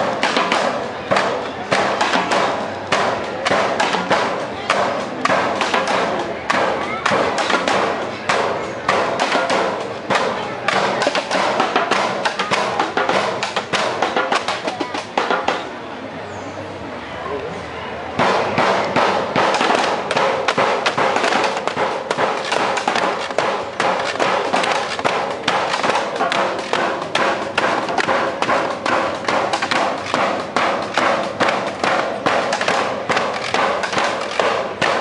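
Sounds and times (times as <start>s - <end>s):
sharp knocks or slaps: 0.0s - 15.7s, 18.2s - 35.0s.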